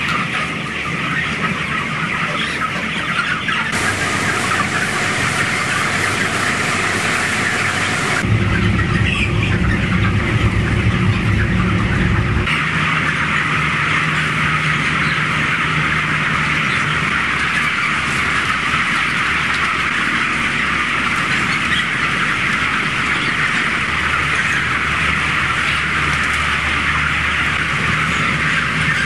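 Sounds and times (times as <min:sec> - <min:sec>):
chickens cheeping: 0:00.0 - 0:29.0
low mechanical hum: 0:03.6 - 0:29.0.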